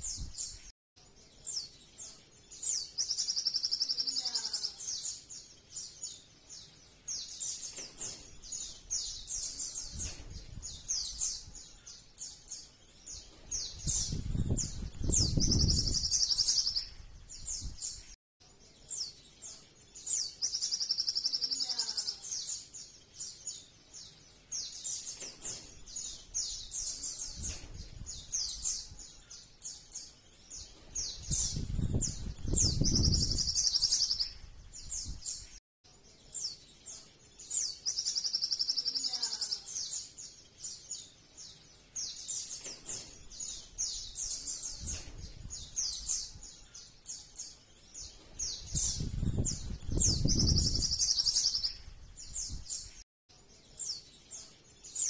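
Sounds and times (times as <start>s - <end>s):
bird chirping and trilling: 1.4s - 18.1s, 19.0s - 35.5s, 36.3s - 55.0s.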